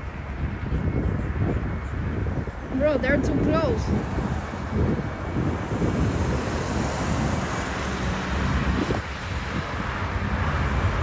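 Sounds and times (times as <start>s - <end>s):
jet engines rumbling: 0.0s - 11.0s
wind buffeting microphone: 0.0s - 11.0s.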